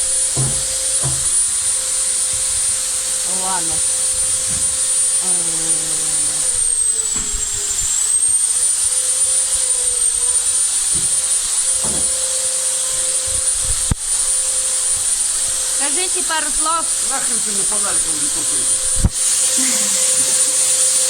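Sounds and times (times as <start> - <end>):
electric motor whining: 0.0 - 21.0
loud hiss: 0.0 - 21.0.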